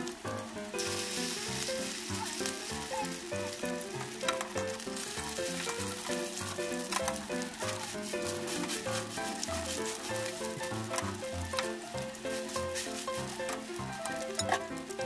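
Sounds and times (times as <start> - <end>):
fritters sizzling in oil: 0.0 - 15.0.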